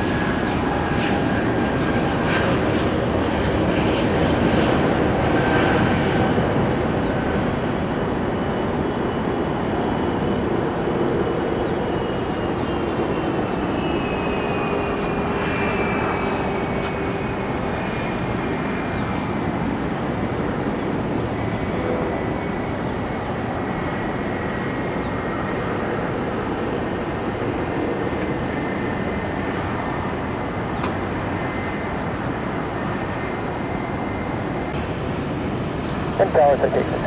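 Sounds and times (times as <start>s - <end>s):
jet engine high whine: 0.0s - 37.0s
jet engines rushing: 0.0s - 37.0s.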